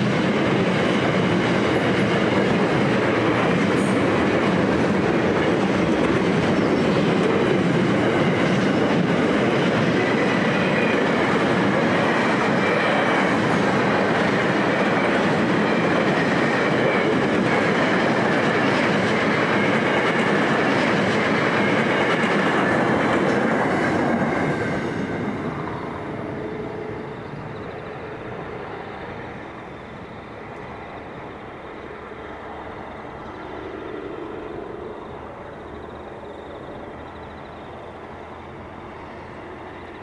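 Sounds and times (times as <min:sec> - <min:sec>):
freight train wagons rolling past: 0:00.0 - 0:40.0
steady train rumble: 0:00.0 - 0:40.0.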